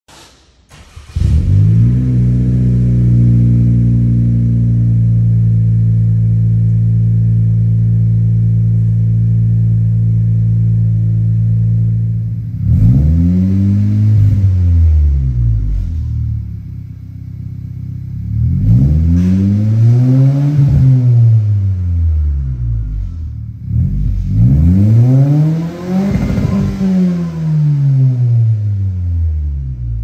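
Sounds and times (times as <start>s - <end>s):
car engine cold start and idle: 0.1s - 30.0s
car engine revving: 0.1s - 30.0s.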